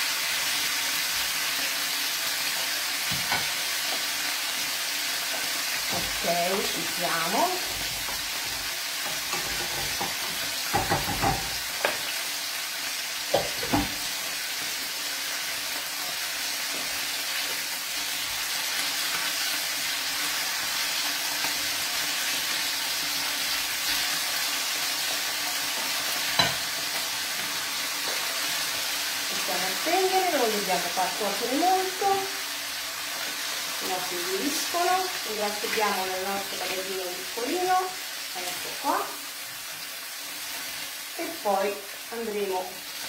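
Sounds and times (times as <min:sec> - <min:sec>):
meat sizzling in a frying pan: 0:00.0 - 0:43.0.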